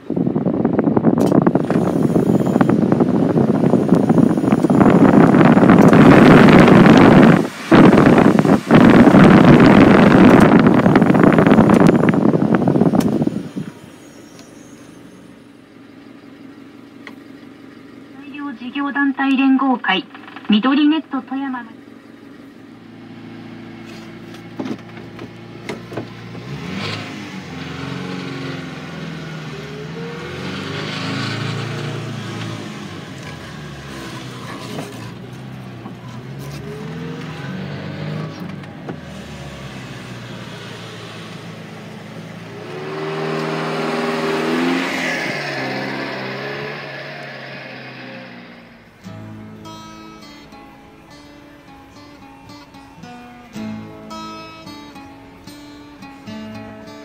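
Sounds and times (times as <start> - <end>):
small truck engine revving: 0.0 - 19.4, 21.8 - 57.0.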